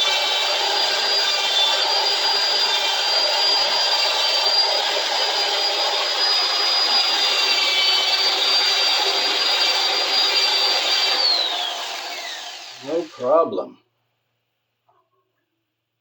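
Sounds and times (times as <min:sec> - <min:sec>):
electric drill whining: 0:00.0 - 0:13.4.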